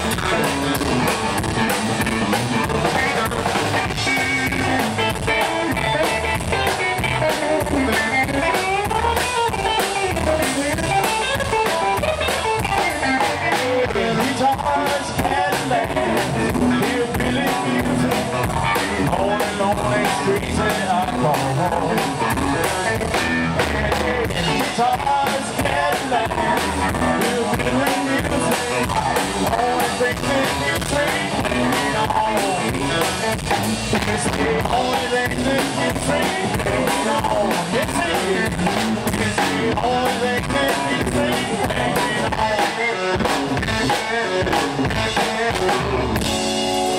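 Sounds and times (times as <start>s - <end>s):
drum kit: 0.0s - 46.9s
twangy electric guitar: 0.0s - 46.9s
upright bass: 0.0s - 46.9s.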